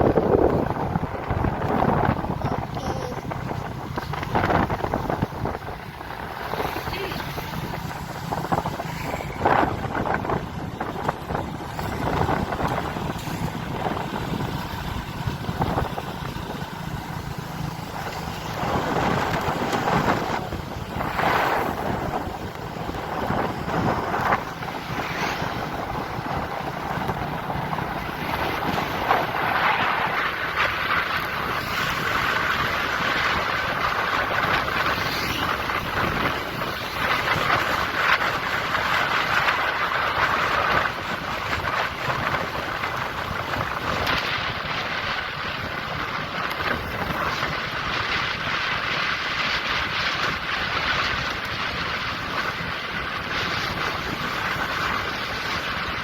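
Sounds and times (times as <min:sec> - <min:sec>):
vehicle noise: 0:00.0 - 0:56.0
wind across microphone: 0:00.0 - 0:56.0.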